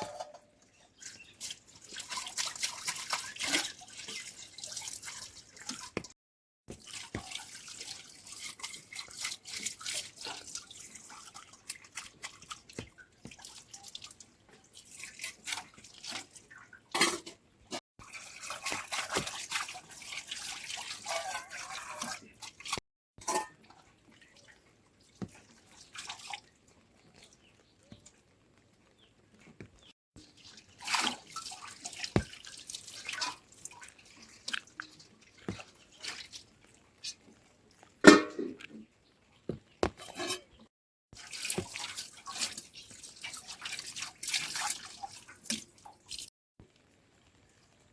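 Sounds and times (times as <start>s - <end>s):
water dripping and splashing: 0.6s - 40.2s, 41.1s - 47.9s.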